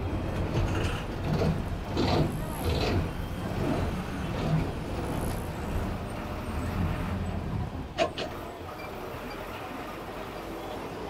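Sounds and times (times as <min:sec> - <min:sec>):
diesel bus engine running: 0:00.0 - 0:11.0.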